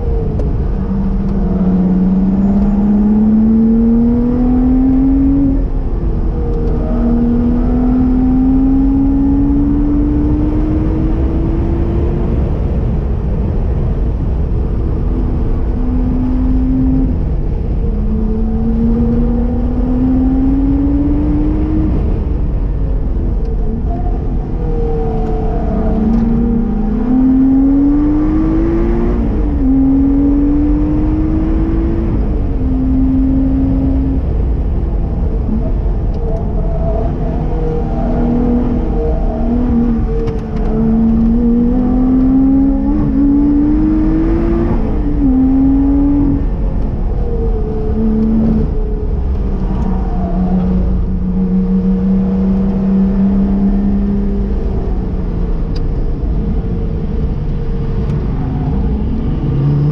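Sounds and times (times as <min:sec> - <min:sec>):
car engine revving: 0:00.0 - 0:59.9
road and wind noise: 0:00.0 - 0:59.9.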